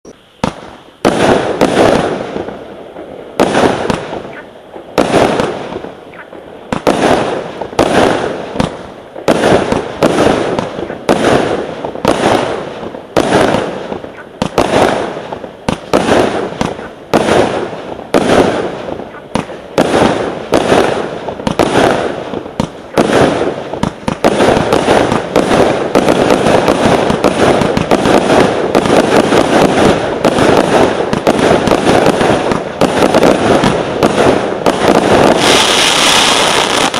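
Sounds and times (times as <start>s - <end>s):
firework bangs: 0.4s - 36.9s.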